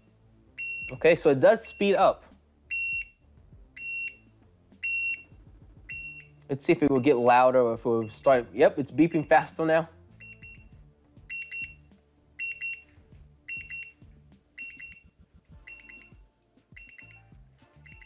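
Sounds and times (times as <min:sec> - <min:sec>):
alarm clock beeping: 0:00.0 - 0:09.6, 0:10.2 - 0:18.0.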